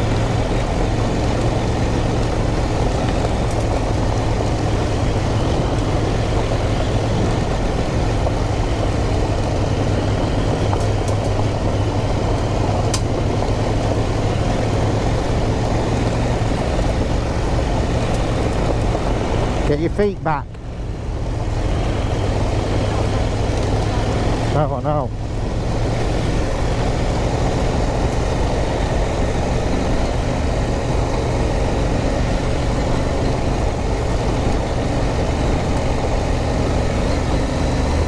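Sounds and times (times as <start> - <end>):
motorcycle engine running: 0.0 - 38.0
rough-ground noise: 0.0 - 38.0
wind noise: 0.0 - 38.0.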